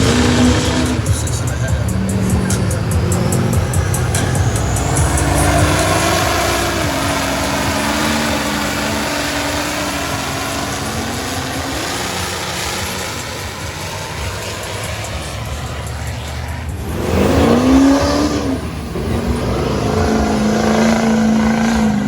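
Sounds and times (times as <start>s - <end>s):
off-road vehicle engine running hard: 0.0s - 22.0s
steady rush of noise: 0.0s - 22.0s.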